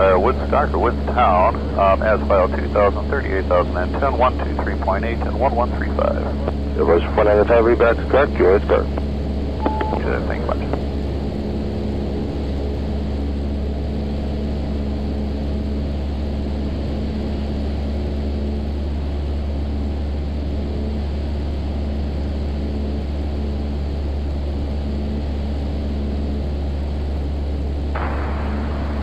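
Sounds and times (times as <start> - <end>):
airplane engine droning: 0.0 - 29.0.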